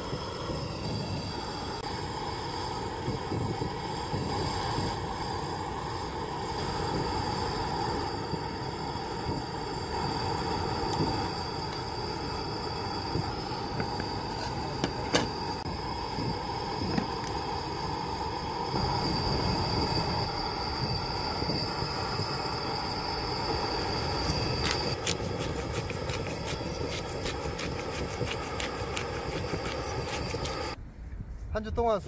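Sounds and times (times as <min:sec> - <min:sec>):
gas burner roar: 0:00.0 - 0:30.8.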